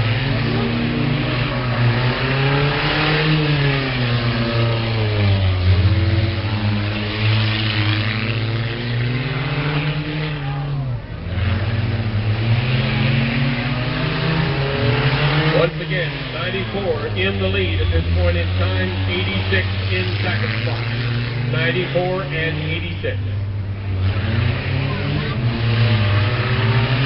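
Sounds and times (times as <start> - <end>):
car engines revving hard: 0.0 - 27.0.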